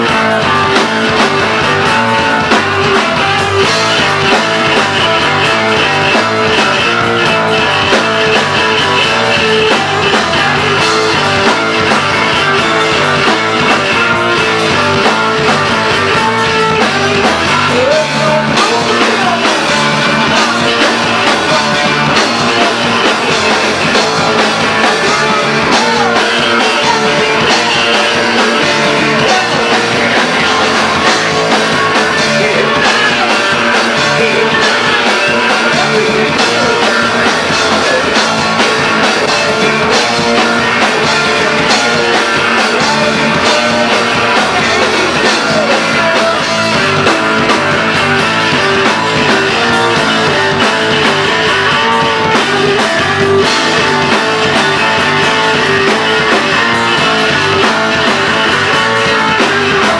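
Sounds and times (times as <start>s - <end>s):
punk band playing live: 0.0s - 59.9s
repeating guitar riff: 0.0s - 59.9s.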